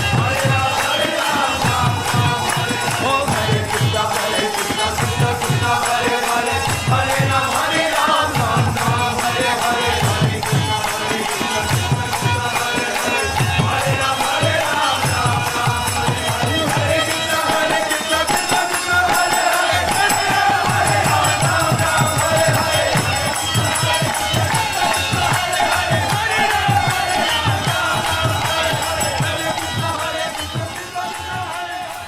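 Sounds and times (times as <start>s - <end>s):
jingling hand cymbals: 0.0s - 32.0s.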